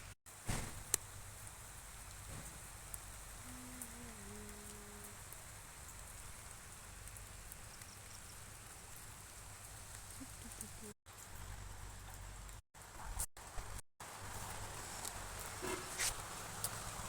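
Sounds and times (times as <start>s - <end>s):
steady rain falling: 0.3s - 17.0s.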